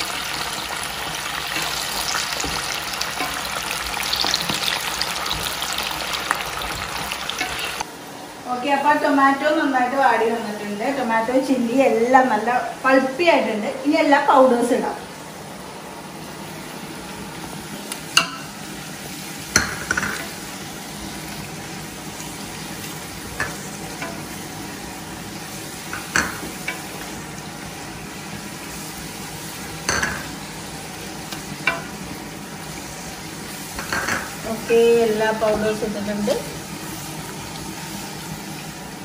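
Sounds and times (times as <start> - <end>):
masala sizzling in a pot: 0.0 - 39.0.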